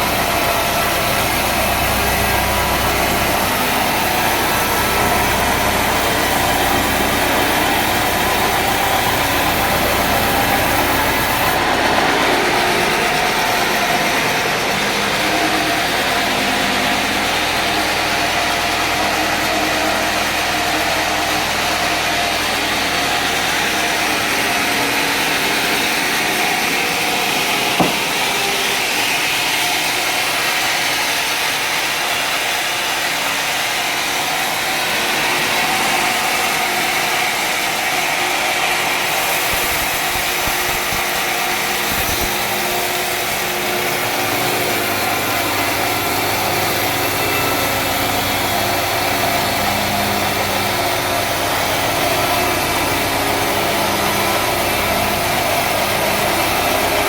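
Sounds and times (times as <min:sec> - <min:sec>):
sawmill engine and saw: 0:00.0 - 0:57.0.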